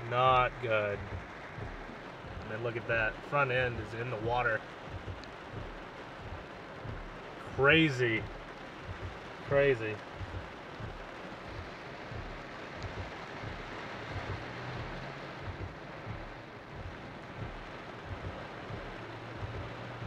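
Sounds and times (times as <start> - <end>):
car driving through floodwater: 0.0 - 20.0
car engine hum: 0.0 - 20.0
steady rain: 0.0 - 20.0.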